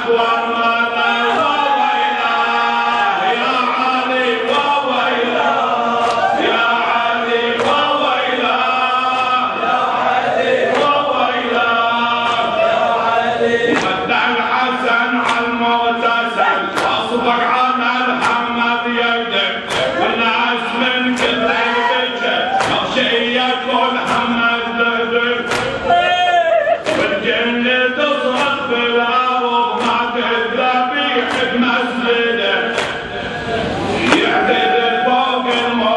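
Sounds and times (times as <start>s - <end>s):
man chanting a lament: 0.0s - 5.5s, 6.4s - 33.2s, 34.0s - 35.9s.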